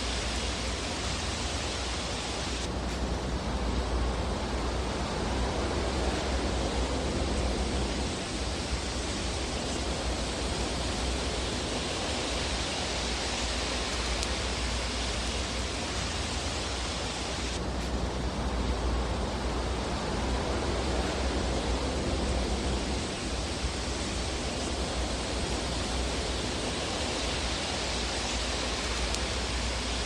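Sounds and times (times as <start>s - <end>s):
faint fire crackle: 0.0s - 30.0s
fire burning in a fireplace: 0.0s - 30.0s.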